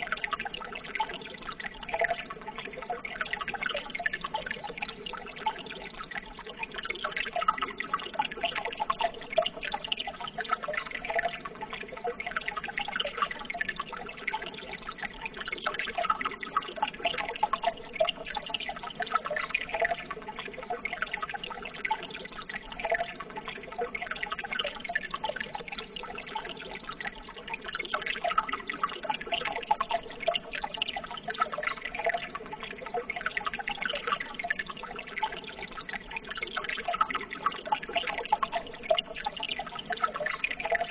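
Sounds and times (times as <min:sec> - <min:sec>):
water trickling with drips: 0:00.0 - 0:40.9.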